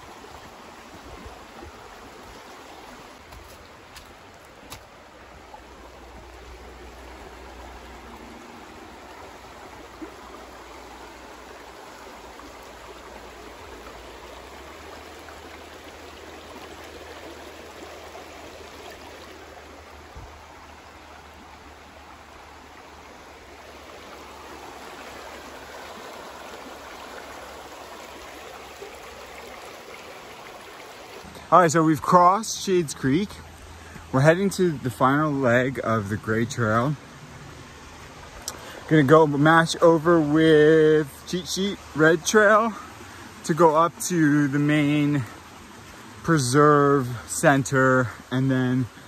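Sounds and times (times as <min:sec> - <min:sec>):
creek running over rocks: 0:00.0 - 0:49.0.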